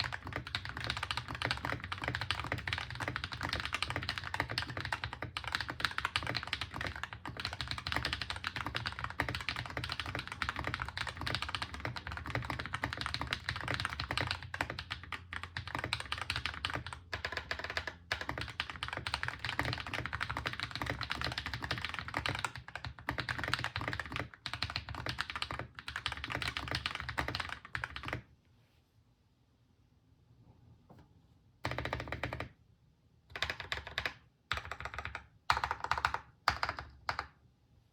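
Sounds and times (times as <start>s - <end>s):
mechanical keyboard typing: 0.0s - 28.2s, 31.6s - 32.6s, 33.3s - 37.4s.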